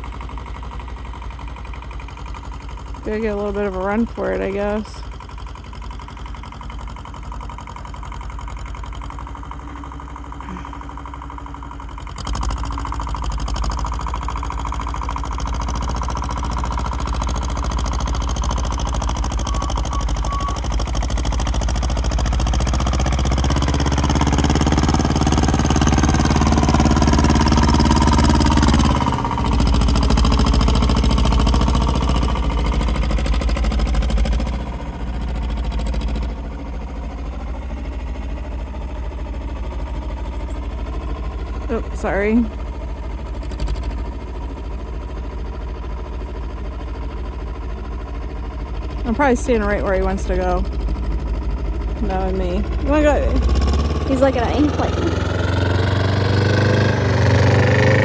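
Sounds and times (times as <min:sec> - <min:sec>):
tractor engine pushing snow: 0:00.0 - 0:58.0.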